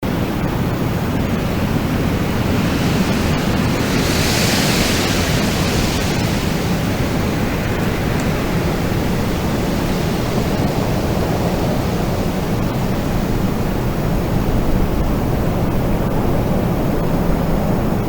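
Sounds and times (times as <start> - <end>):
wind blowing: 0.0 - 18.0.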